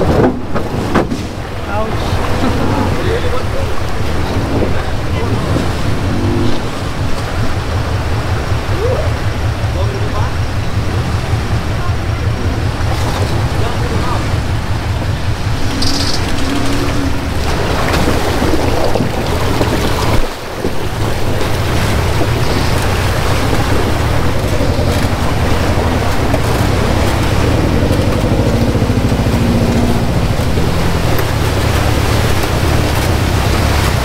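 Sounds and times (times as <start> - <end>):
vehicle engine running: 0.0 - 34.0
wind buffeting microphone: 0.0 - 34.0.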